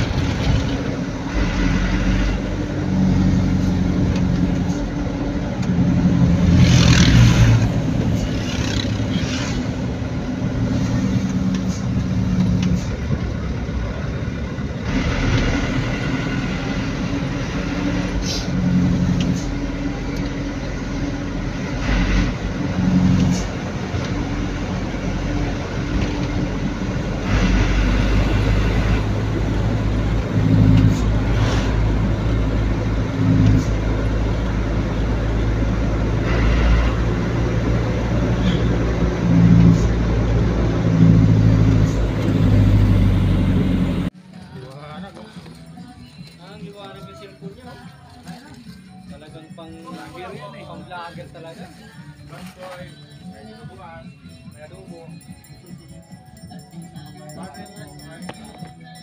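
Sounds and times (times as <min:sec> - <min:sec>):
road noise: 0:00.0 - 0:59.0
van engine hum: 0:00.0 - 0:59.0.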